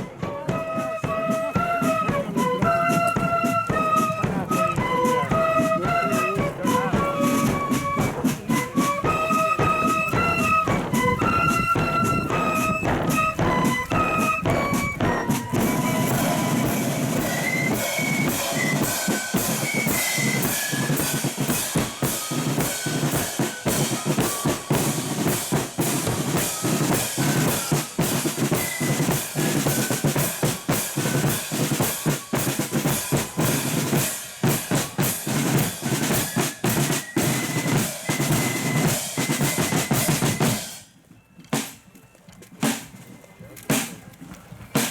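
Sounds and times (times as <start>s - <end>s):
bass drum and snare drums: 0.0s - 40.9s, 42.6s - 43.0s, 43.7s - 44.0s
flute tune: 0.0s - 44.9s.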